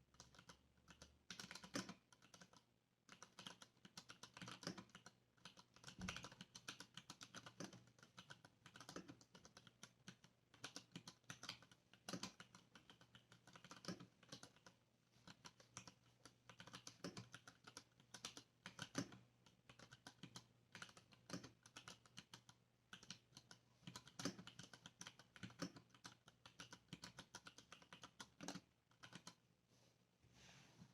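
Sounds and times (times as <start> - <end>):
mechanical keyboard typing: 0.1 - 29.4.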